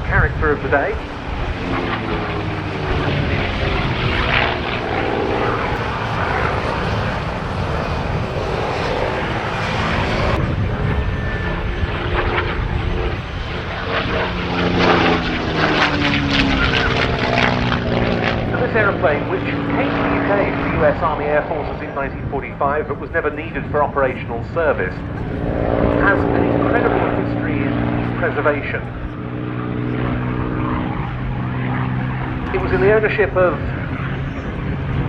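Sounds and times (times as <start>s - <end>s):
propeller plane engine drone: 0.0s - 35.0s.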